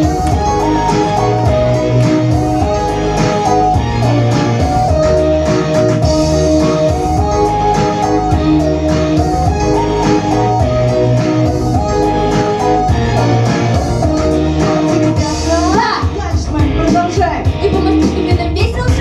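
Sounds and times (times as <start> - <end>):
guitar-led instrumental music: 0.0 - 19.0.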